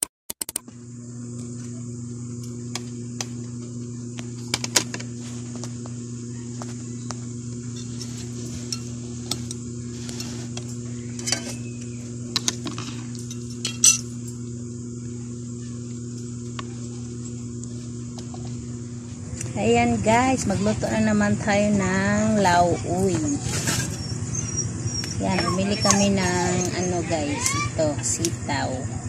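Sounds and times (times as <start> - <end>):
low electrical hum: 0.6 - 29.0.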